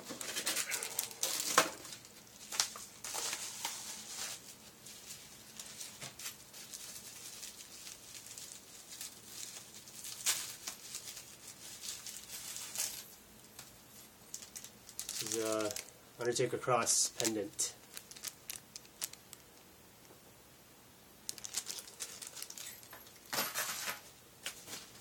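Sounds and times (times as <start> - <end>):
plastic packaging crinkling: 0.0 - 16.0, 16.8 - 19.7, 21.2 - 25.0.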